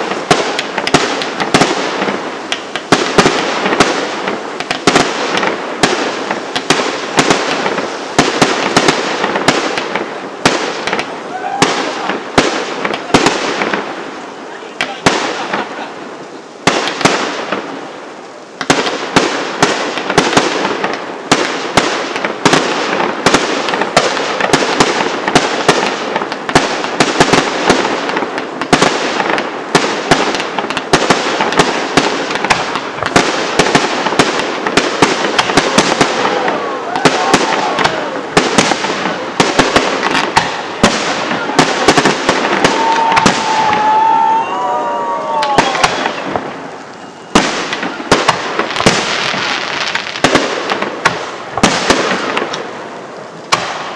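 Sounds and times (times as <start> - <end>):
fireworks crackling: 0.0 - 53.9.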